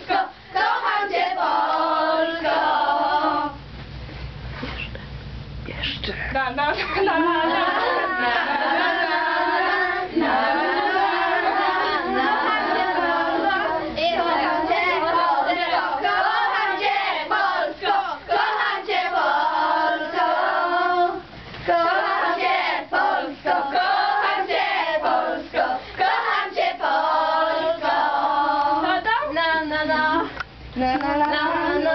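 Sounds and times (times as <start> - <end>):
girls singing in chorus: 0.0 - 3.6, 7.0 - 30.4, 31.0 - 31.9.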